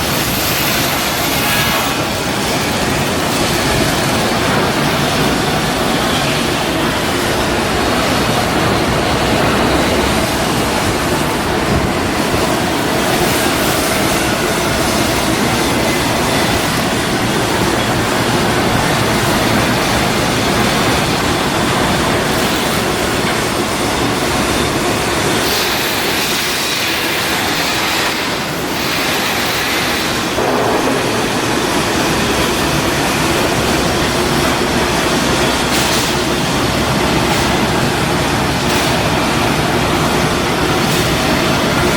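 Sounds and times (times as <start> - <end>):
shipyard machinery rumble and rattle: 0.0 - 41.9.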